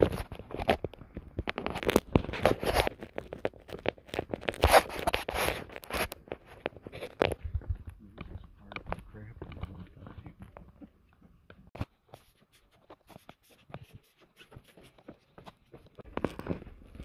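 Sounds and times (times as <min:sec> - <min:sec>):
rustling and scraping on microphone: 0:00.0 - 0:17.0.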